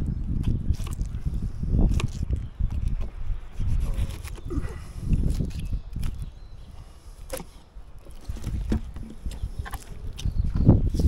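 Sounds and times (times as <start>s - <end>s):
knife cutting and scraping fish: 0.4s - 11.0s.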